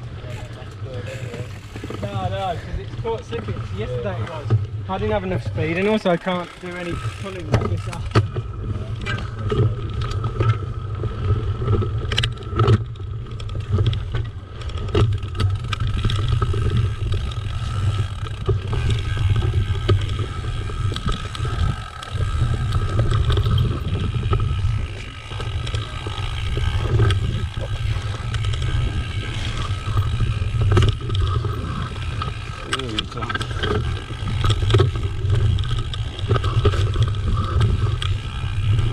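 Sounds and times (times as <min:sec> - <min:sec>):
bike tyres rumbling on dirt: 0:00.0 - 0:38.9
bike knocks and rattles: 0:00.3 - 0:38.9.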